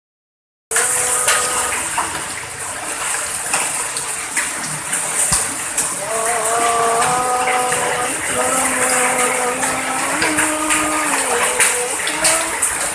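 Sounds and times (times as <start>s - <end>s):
hailstones ticking: 0.7s - 12.9s
heavy rain hissing: 0.7s - 12.9s.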